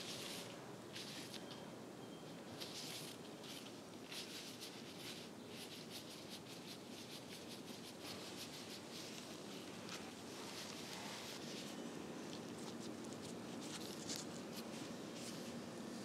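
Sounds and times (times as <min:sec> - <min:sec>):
plastic gloves rustling: 0:00.0 - 0:01.5, 0:02.4 - 0:16.0
steady background noise: 0:00.0 - 0:16.0.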